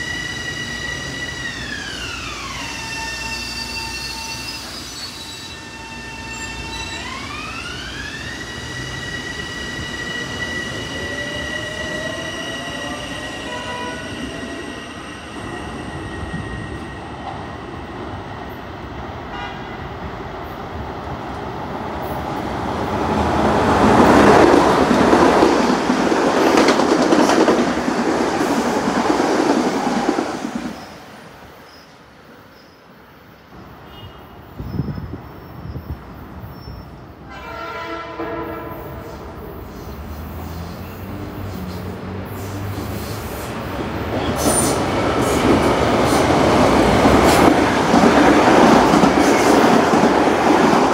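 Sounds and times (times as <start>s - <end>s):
train passing close by: 0.0s - 50.9s.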